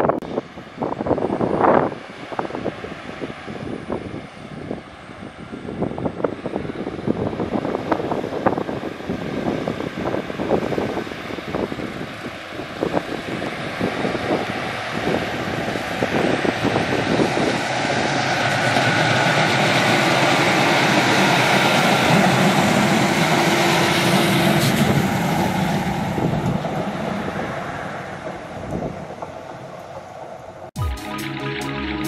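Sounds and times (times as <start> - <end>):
diesel train passing: 0.1 - 32.0.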